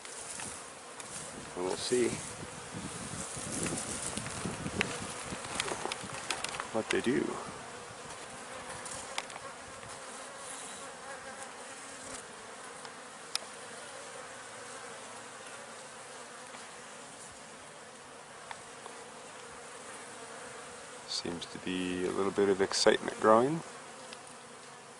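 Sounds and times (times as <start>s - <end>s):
honeybees buzzing: 0.0s - 24.9s.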